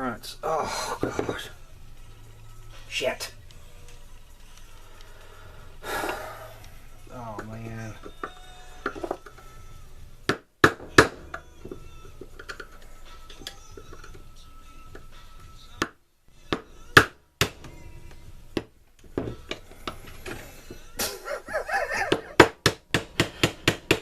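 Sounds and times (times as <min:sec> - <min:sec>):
faint background music: 0:00.0 - 0:24.0.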